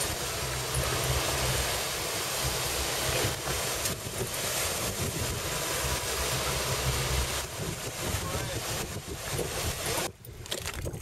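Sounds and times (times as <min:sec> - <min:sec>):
outboard motor humming: 0:00.0 - 0:11.0
water rushing in boat wake: 0:00.0 - 0:11.0
wind on microphone: 0:00.0 - 0:11.0.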